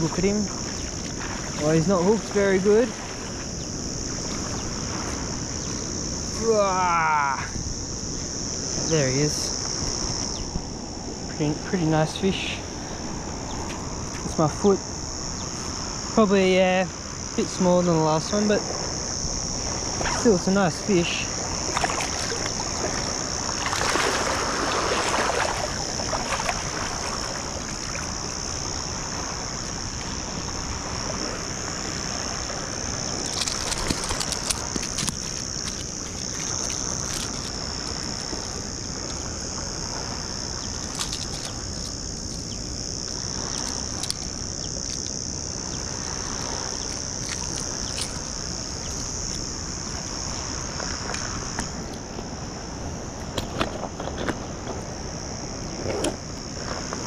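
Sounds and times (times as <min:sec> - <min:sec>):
insect chorus: 0:00.0 - 0:57.0
water washing on sand: 0:00.0 - 0:57.0.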